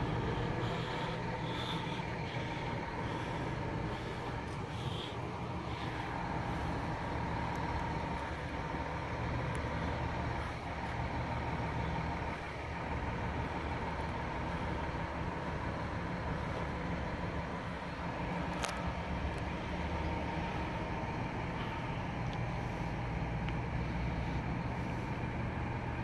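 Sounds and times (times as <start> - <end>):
machinery humming with high whine: 0.0 - 26.0.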